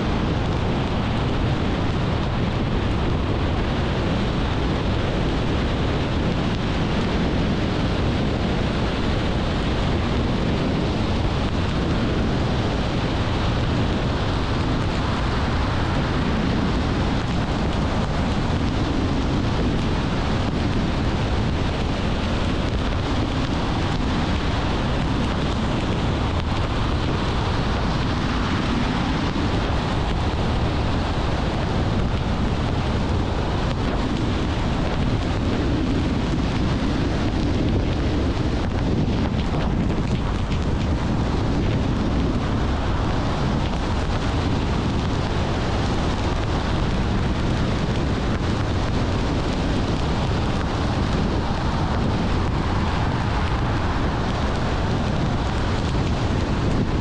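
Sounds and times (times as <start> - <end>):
car road noise at speed: 0.0 - 57.0.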